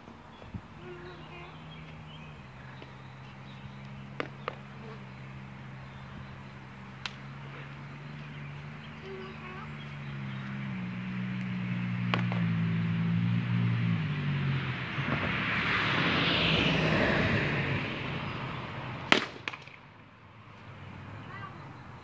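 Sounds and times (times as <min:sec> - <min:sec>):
vehicle engine hum: 0:00.0 - 0:22.0.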